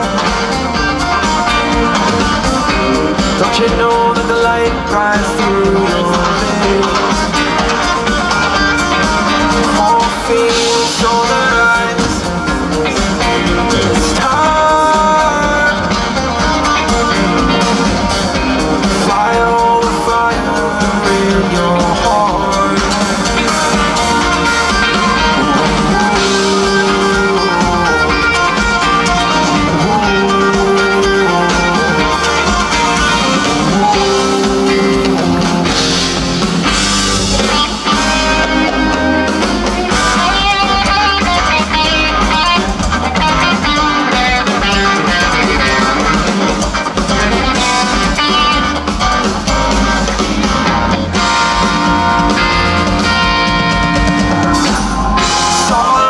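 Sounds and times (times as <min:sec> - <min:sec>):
electric guitar lines: 0:00.0 - 0:56.0
rock band playing: 0:00.0 - 0:56.0.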